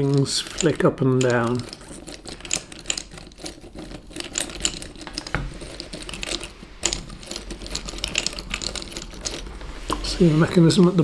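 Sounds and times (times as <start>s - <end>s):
wooden mechanism clicking: 0.0s - 10.1s.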